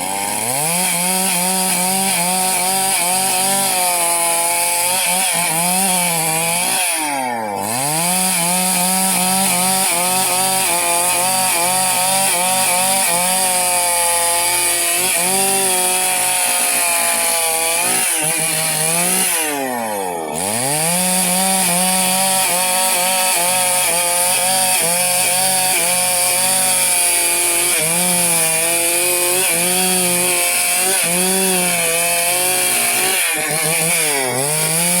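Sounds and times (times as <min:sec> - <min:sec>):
chainsaw cutting timber: 0:00.0 - 0:35.0.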